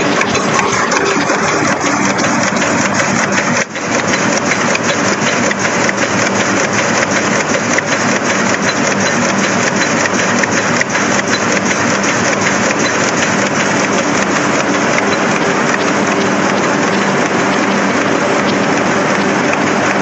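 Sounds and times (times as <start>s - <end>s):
printing press running: 0.0s - 20.0s.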